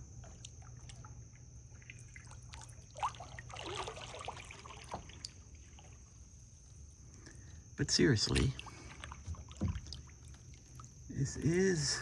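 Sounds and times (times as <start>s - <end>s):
small water splashes: 0.0s - 6.7s, 8.1s - 12.0s
water dripping and trickling: 0.0s - 7.3s, 8.2s - 12.0s.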